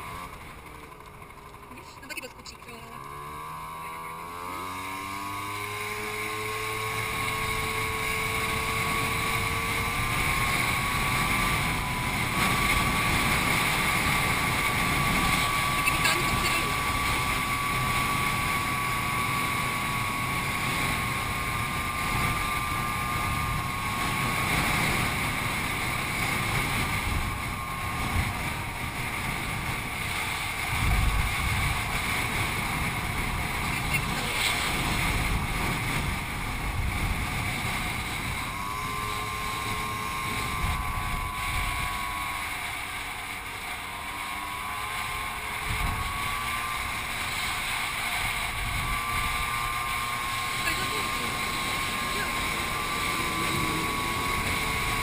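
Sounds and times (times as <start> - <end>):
scooter engine whine: 0.0 - 55.0
wind buffeting microphone: 5.2 - 55.0.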